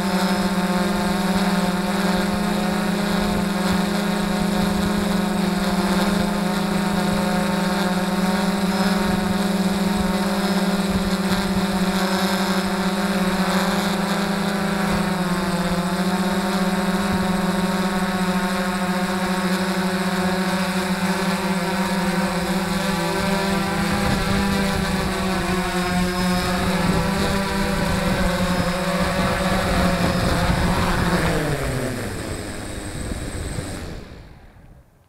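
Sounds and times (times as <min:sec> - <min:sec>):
drone motors humming: 0:00.0 - 0:35.0.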